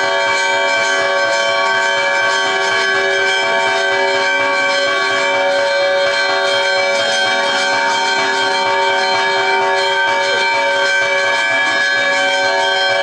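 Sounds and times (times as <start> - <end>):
church bells ringing a peal: 0.0 - 13.0.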